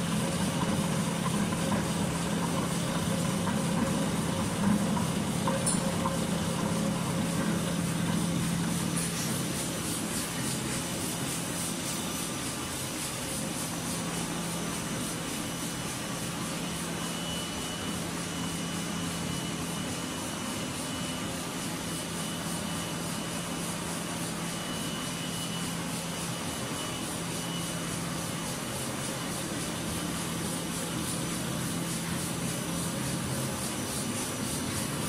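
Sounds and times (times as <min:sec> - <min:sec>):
faint high whine: 0:00.0 - 0:35.0
napkin machine running: 0:00.0 - 0:35.0.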